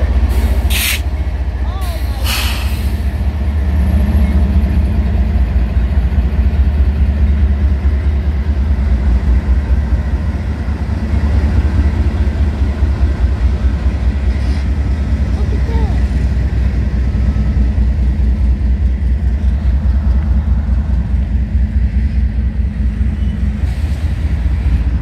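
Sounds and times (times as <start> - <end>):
locomotive engines rumbling: 0.0 - 25.0.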